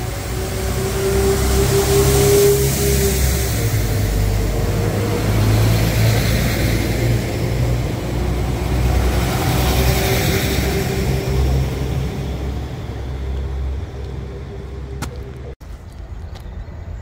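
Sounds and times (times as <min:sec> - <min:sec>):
diesel locomotive engine running: 0:00.0 - 0:15.6.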